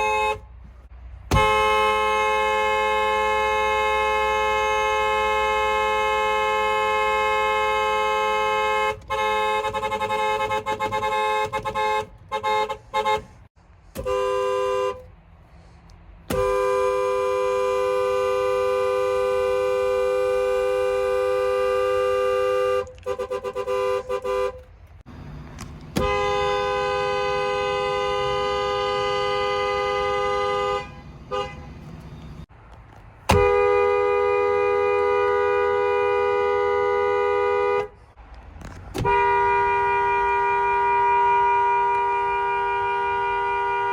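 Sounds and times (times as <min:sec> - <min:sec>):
car horns honking: 0:00.0 - 0:32.5, 0:33.2 - 0:43.9.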